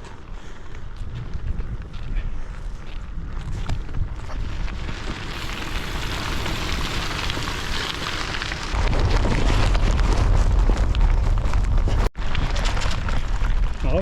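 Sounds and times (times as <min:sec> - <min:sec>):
bicycle tyres on gravel: 0:00.0 - 0:14.0
wind buffeting microphone: 0:00.3 - 0:14.0.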